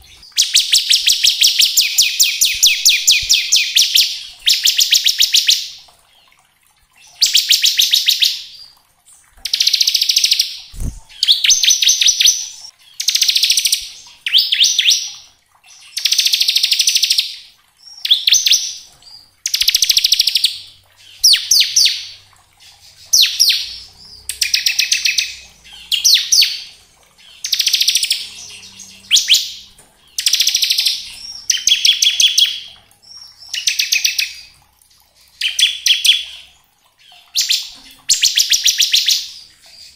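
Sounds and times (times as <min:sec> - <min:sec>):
bird singing rattling trills: 0:00.0 - 0:06.3, 0:09.4 - 0:17.2, 0:17.8 - 0:39.9.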